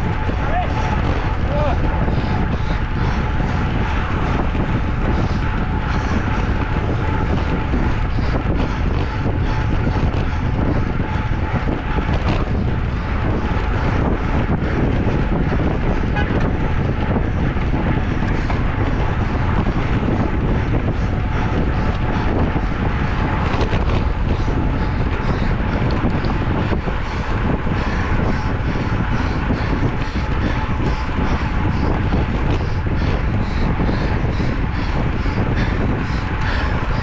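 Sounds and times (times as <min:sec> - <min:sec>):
rushing wind and road noise: 0:00.0 - 0:37.0
wind buffeting on microphone: 0:00.0 - 0:37.0.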